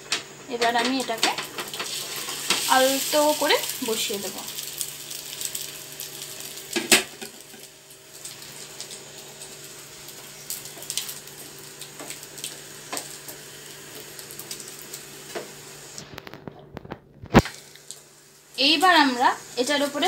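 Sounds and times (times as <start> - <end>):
food sizzling in a pan: 0.0 - 16.4, 17.3 - 20.0.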